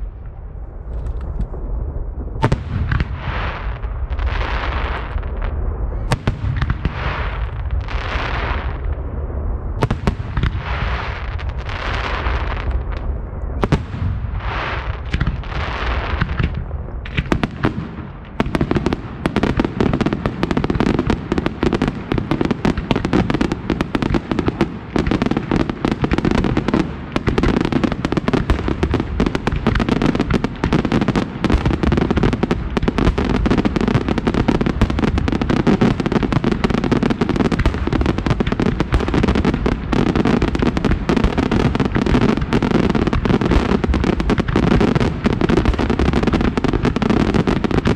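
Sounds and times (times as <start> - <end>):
fireworks bangs and cracks: 0.0 - 47.9.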